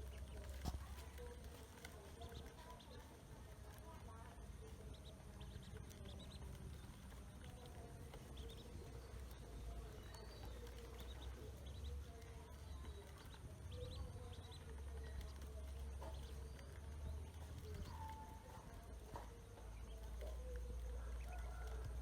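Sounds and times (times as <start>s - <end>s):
ducklings peeping: 0.0s - 22.0s.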